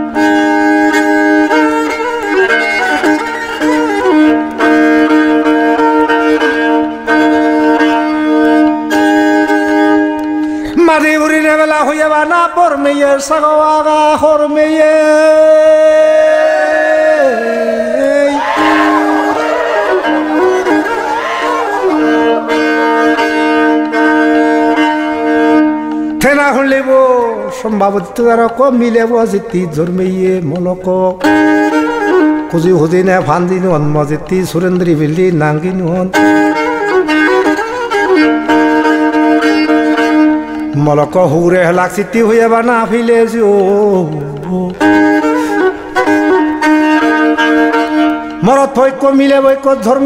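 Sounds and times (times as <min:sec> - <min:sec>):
solo violin: 0:00.0 - 0:50.0.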